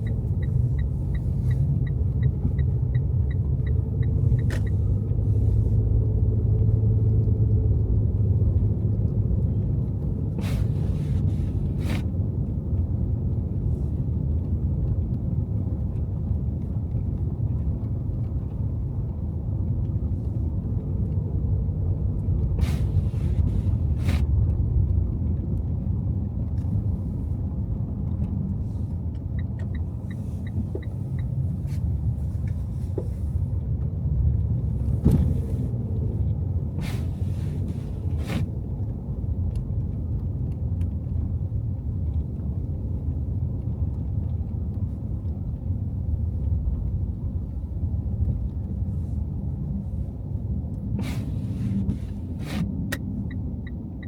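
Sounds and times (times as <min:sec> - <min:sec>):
car driving on snow: 0:00.0 - 0:54.0.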